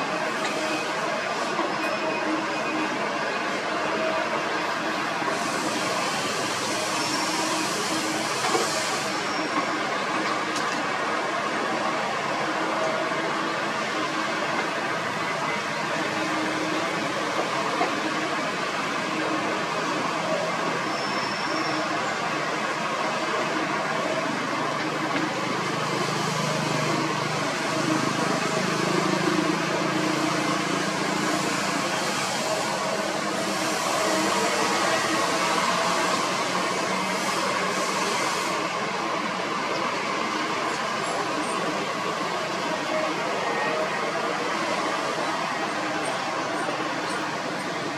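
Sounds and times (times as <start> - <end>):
excavator engine and hydraulics: 0.0 - 47.9.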